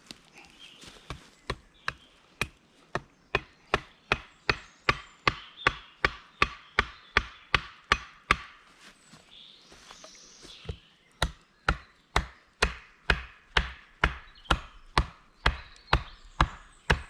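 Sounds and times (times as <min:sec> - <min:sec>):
wood chopping strikes: 0:00.9 - 0:08.6, 0:10.5 - 0:17.0.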